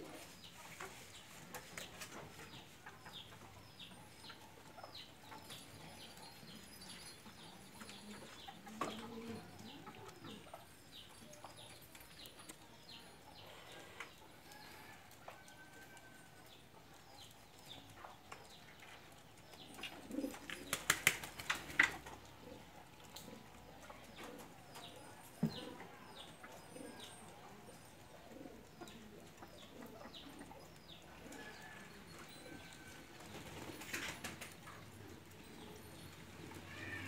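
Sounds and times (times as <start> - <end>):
pigeons cooing softly: 0.0 - 37.0.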